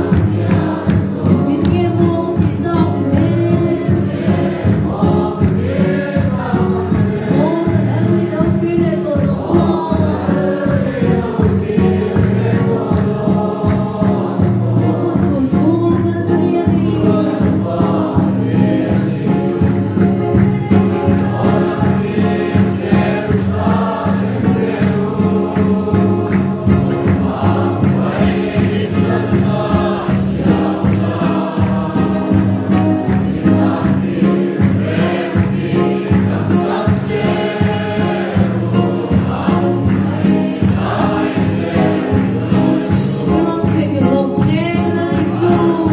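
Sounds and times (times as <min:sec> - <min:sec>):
congregation singing a hymn: 0:00.0 - 0:45.9
low accompaniment with steady beat: 0:00.0 - 0:45.9.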